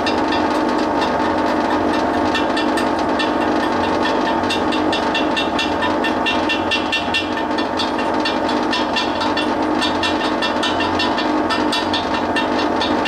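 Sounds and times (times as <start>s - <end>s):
welder cooling fan humming: 0.0s - 13.0s.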